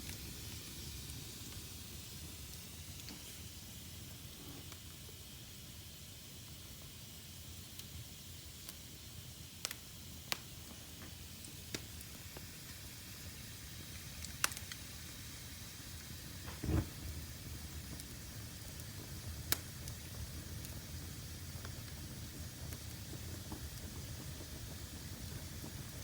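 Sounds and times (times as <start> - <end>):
fire crackling pops: 0.0 - 26.0
fire hissing: 0.0 - 26.0.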